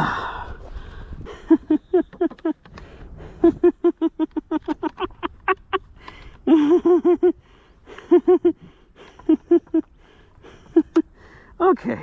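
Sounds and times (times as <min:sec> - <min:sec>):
man laughing breathlessly: 0:00.0 - 0:11.6.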